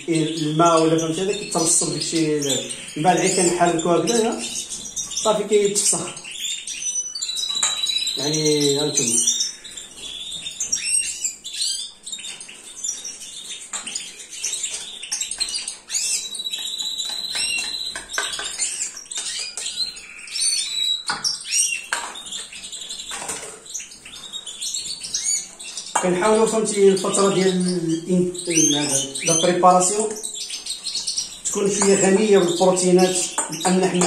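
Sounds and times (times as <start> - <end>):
birds chirping and warbling: 0.0 - 34.0.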